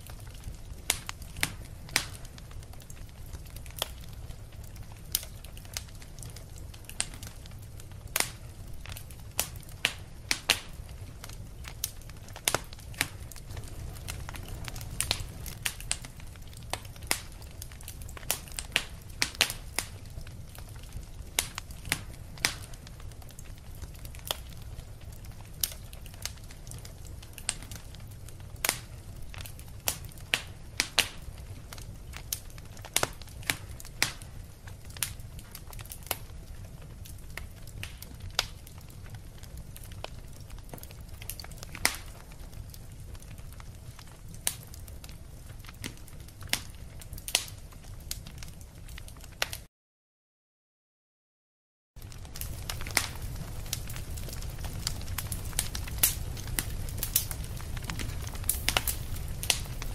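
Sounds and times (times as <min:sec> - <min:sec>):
wood fire crackling: 0:00.0 - 0:49.7, 0:52.0 - 0:59.9.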